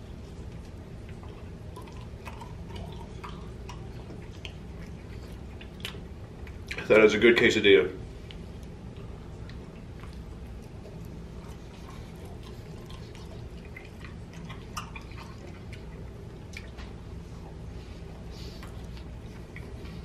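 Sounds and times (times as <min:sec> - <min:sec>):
person chewing food: 0:00.0 - 0:06.9, 0:08.1 - 0:20.0
low room hum: 0:00.0 - 0:20.0.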